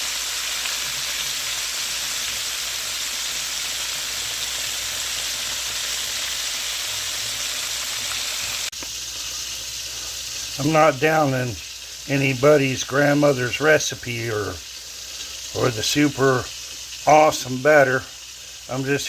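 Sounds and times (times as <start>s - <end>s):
battered fish frying in hot oil: 0.0s - 19.0s.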